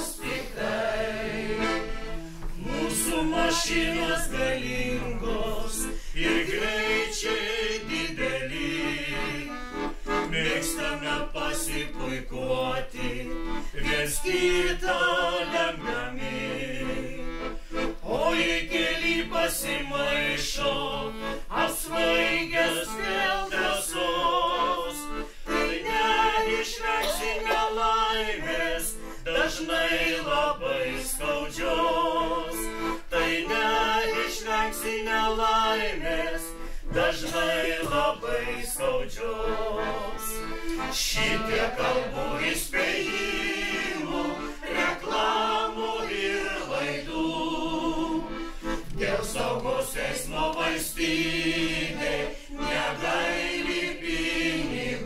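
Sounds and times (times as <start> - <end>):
men and women singing together: 0.0 - 55.0.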